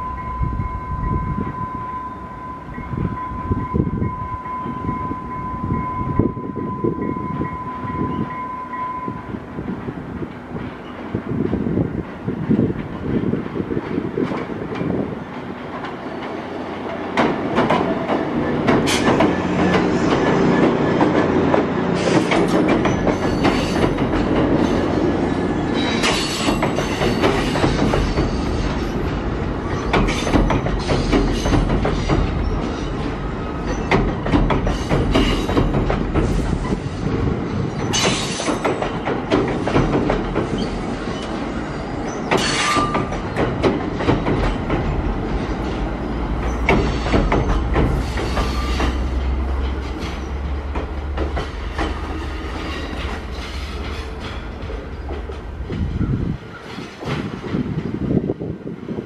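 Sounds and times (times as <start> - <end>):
train rumbling over bridge: 0.0 - 59.0
wheels clicking on rails: 9.7 - 58.0.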